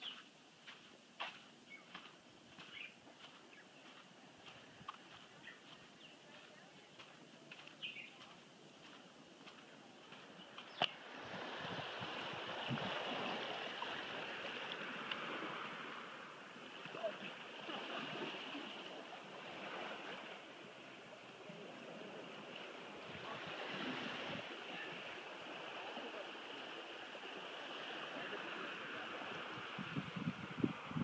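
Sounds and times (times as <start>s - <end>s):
gentle surf washing on shore: 0.0s - 31.0s.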